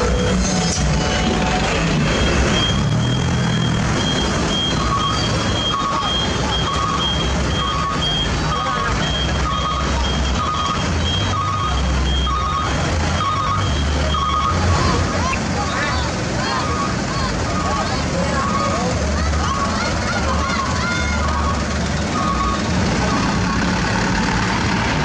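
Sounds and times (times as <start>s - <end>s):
truck engine running: 0.0s - 25.0s
truck reversing alarm beeping: 0.0s - 25.0s.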